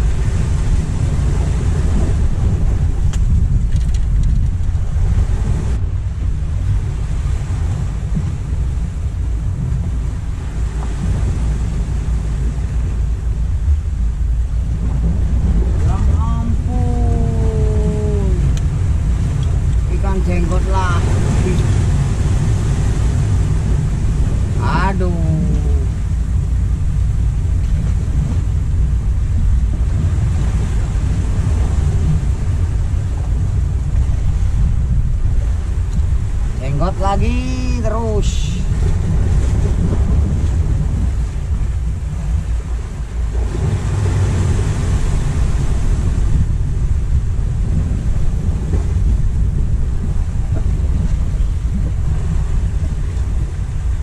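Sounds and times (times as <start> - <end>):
sea waves against rocks: 0.0 - 54.0
wind buffeting microphone: 0.0 - 54.0.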